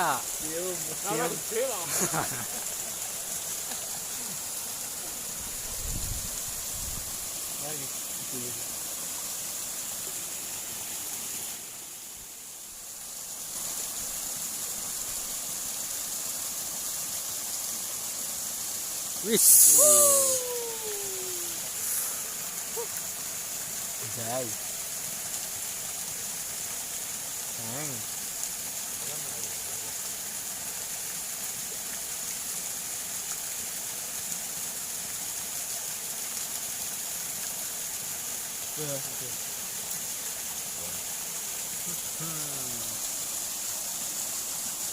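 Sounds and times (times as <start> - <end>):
water rushing in a ditch: 0.0 - 44.9.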